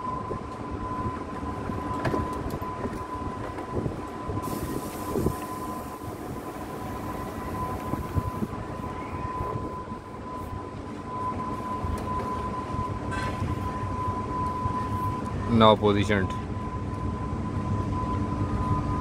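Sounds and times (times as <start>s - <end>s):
high whine: 0.0s - 19.0s
ship engines rumbling: 0.0s - 19.0s.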